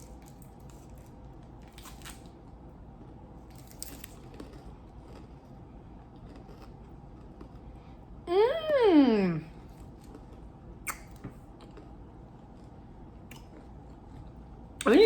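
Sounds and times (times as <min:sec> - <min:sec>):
crunching of chocolate bar chewing: 0:00.0 - 0:07.8, 0:09.6 - 0:14.4.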